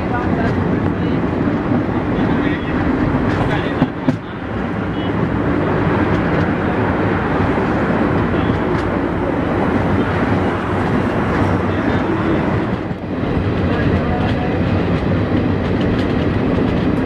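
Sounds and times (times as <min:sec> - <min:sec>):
moving passenger train: 0:00.0 - 0:17.0.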